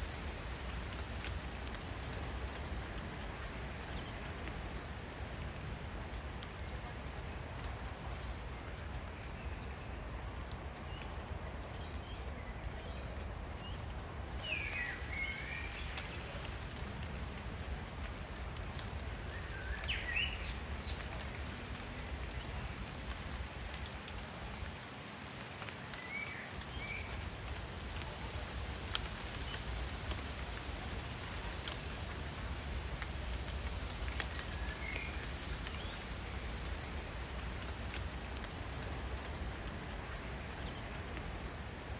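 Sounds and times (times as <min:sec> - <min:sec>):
sharp drips: 0:00.0 - 0:41.9
steady rain: 0:00.0 - 0:41.9.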